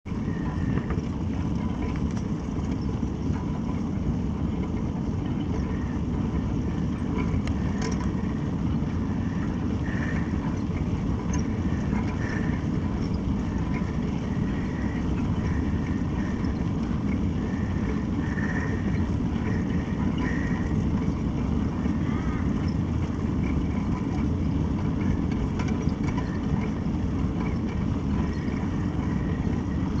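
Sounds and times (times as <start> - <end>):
bicycle tyres rolling on asphalt: 0.1 - 30.0
wind on microphone: 0.1 - 30.0.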